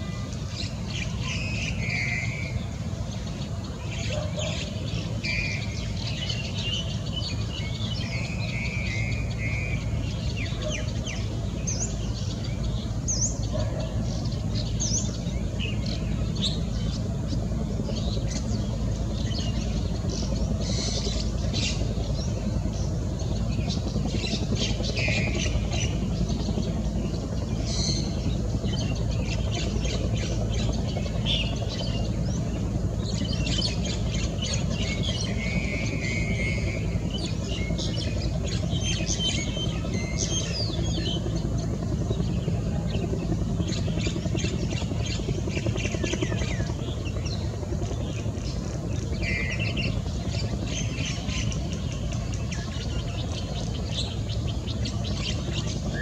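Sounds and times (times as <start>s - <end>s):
birds chirping and calling: 0.4s - 56.0s.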